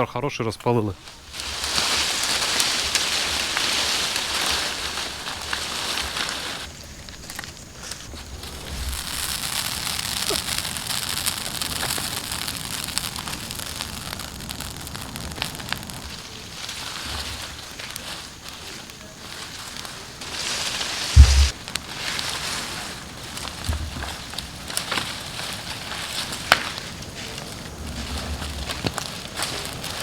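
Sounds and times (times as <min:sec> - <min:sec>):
bonfire crackling and popping: 0:01.0 - 0:30.0.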